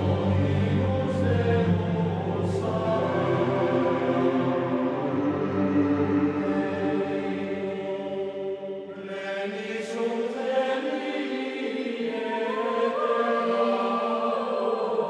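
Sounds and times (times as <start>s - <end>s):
choir chanting held notes: 0.0s - 15.0s.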